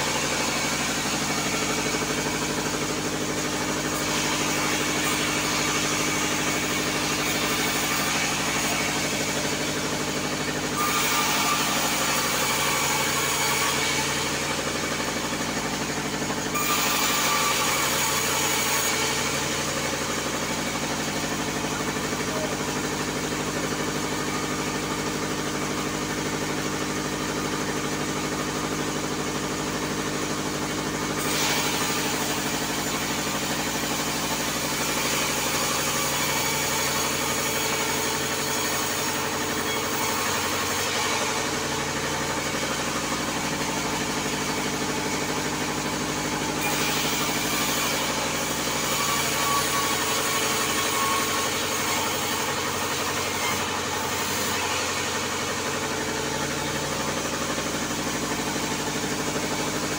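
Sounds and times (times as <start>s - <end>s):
saw blade cutting log: 0.0s - 59.9s
sawmill machine hum: 0.0s - 59.9s.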